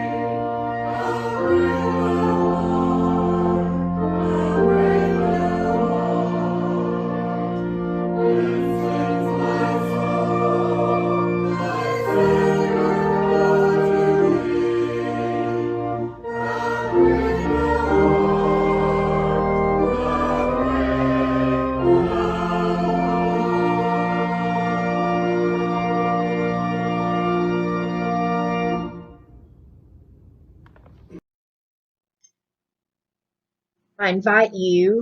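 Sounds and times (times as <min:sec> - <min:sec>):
church organ chords: 0:00.0 - 0:29.6.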